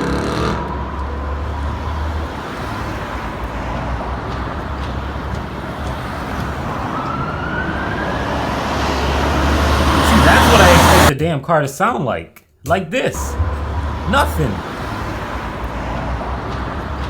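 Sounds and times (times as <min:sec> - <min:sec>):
car engine and road noise: 0:00.0 - 0:11.1, 0:13.0 - 0:17.0.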